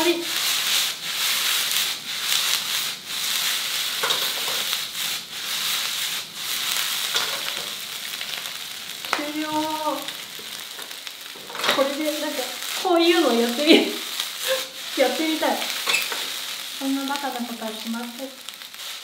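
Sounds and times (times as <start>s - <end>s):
rice sizzling in a wok: 0.0s - 19.0s.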